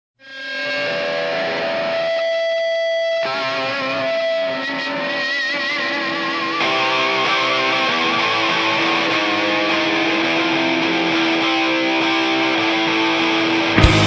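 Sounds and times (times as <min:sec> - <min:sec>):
distorted electric guitar rock intro: 0:00.2 - 0:14.0.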